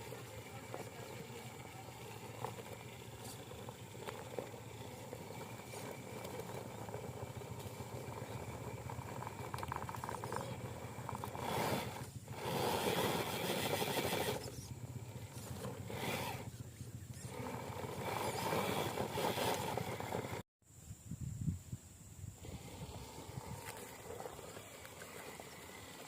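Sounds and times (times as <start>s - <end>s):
toy truck motor running: 0.0s - 20.4s, 22.4s - 26.0s.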